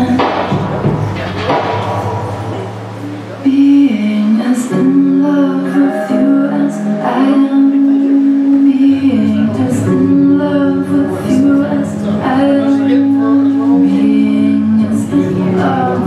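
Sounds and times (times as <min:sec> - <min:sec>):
sustained accompaniment: 0:00.0 - 0:16.0
person singing long notes: 0:02.6 - 0:16.0.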